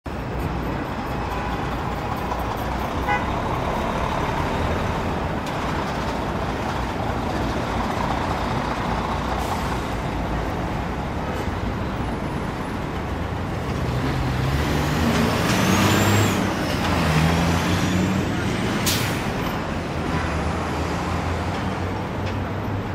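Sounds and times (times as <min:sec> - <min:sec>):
dense city traffic: 0:00.0 - 0:22.9
large vehicle engine rumble: 0:00.1 - 0:22.9.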